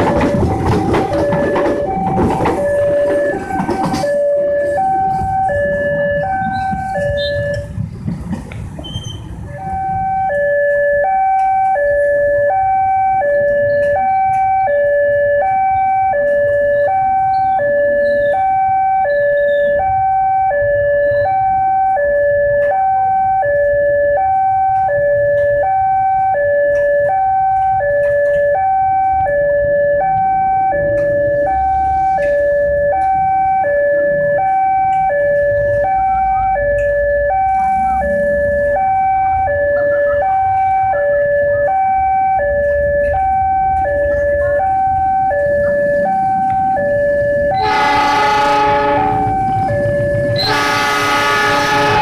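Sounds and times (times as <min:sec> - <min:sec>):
two-tone warning signal: 0:00.0 - 0:07.8, 0:09.5 - 0:52.0.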